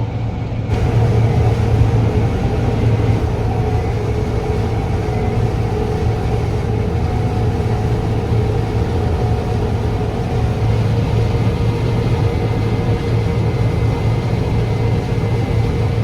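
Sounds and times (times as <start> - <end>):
faint steady hum: 0.0 - 16.0
harvester engine drone: 0.0 - 16.0.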